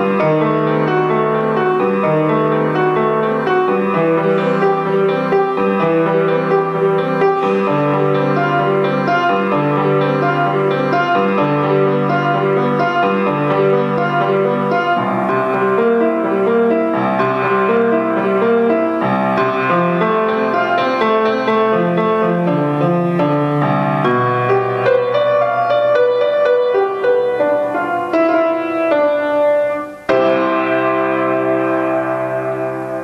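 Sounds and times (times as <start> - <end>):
solo grand piano: 0.0 - 33.0.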